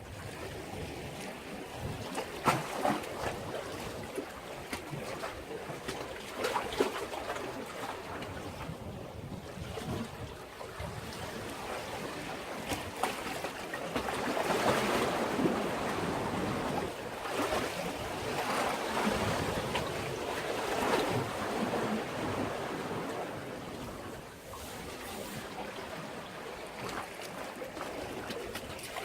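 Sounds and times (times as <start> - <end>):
sea waves washing against breakwater: 0.0 - 29.0.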